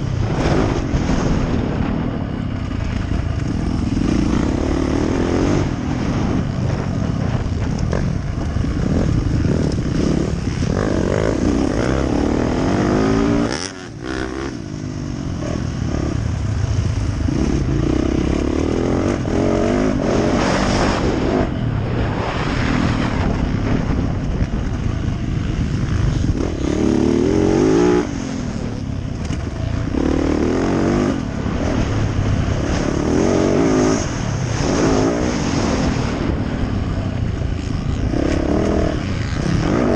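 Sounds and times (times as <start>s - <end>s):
motocross bike engine revving: 0.0s - 24.0s, 24.7s - 39.9s.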